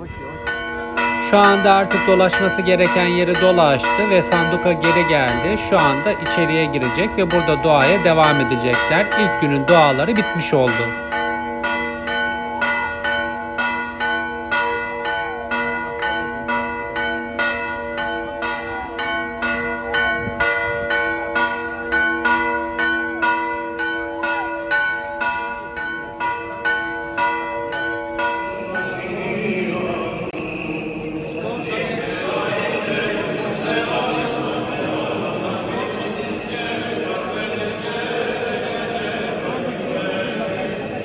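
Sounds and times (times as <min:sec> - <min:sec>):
church bells ringing: 0:00.0 - 0:41.0
murmur of a crowd: 0:00.0 - 0:41.0.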